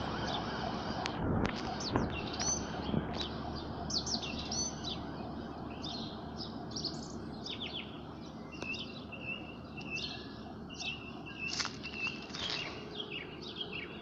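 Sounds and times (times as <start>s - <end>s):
songbirds chirping and twittering: 0.0s - 14.0s.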